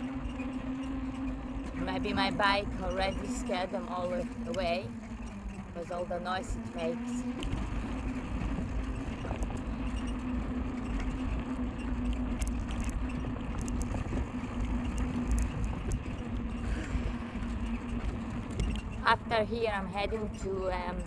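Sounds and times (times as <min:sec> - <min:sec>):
steady hum: 0:00.0 - 0:21.0
wind rumbling on microphone: 0:00.0 - 0:21.0
bicycle clicks and rattles: 0:00.1 - 0:16.6, 0:17.2 - 0:19.0.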